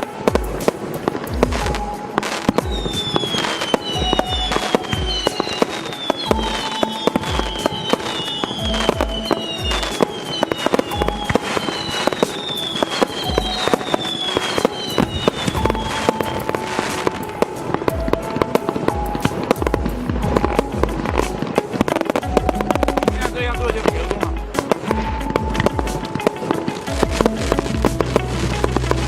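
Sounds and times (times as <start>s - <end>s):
background music: 0.0s - 29.0s
fireworks bangs and crackle: 0.0s - 29.0s.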